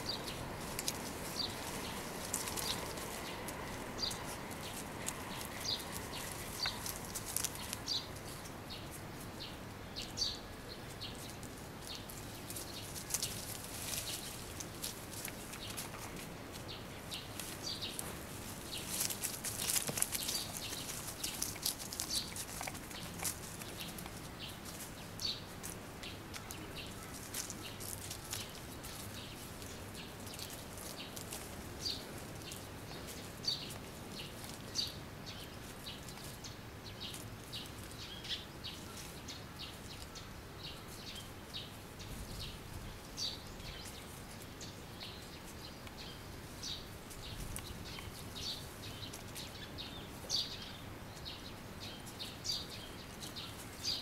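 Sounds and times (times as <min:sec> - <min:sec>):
faint background hiss: 0:00.0 - 0:54.0.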